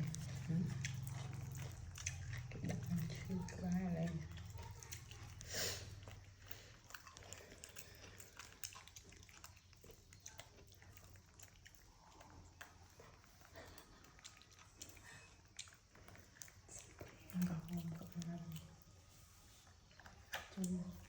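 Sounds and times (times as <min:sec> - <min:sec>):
monkey chewing food: 0:00.0 - 0:21.0.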